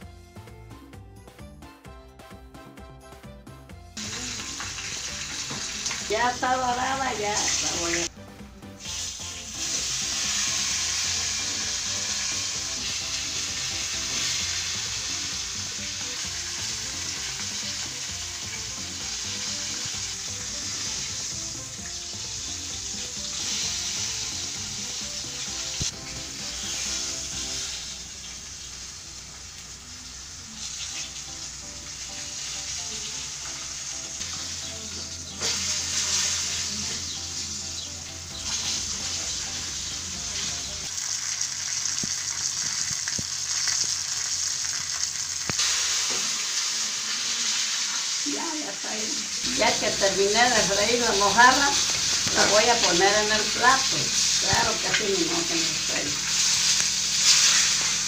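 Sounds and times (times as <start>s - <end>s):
fish frying in hot oil: 4.0s - 8.1s, 8.8s - 58.0s.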